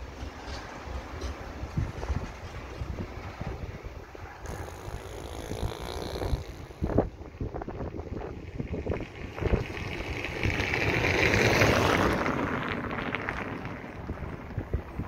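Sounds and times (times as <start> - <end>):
car tyre noise passing: 0.0 - 15.0
freight train rumble: 0.0 - 15.0
wind buffeting microphone: 0.0 - 15.0.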